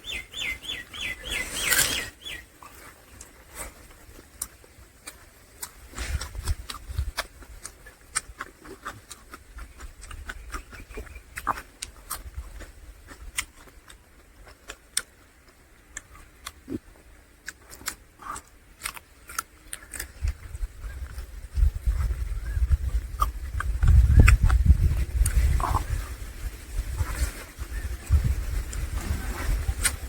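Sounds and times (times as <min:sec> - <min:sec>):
person chewing: 0:01.0 - 0:26.1.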